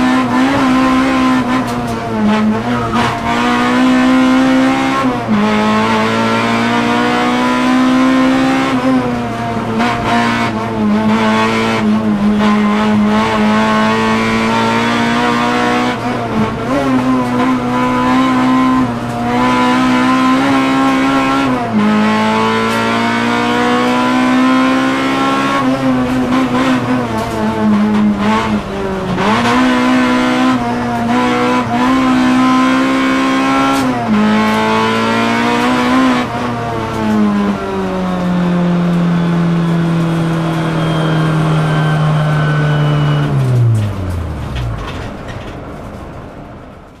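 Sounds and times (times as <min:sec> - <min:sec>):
car engine running hard: 0:00.0 - 0:47.0.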